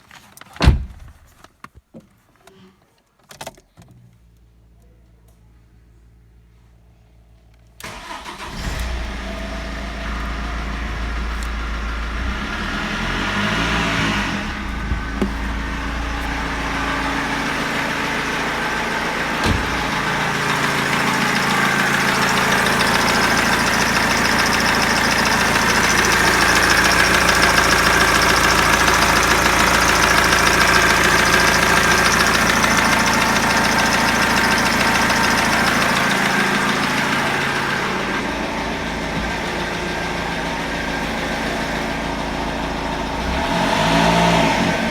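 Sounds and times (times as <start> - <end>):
diesel engine running: 7.8 - 44.9
abnormal engine noise: 7.9 - 44.9.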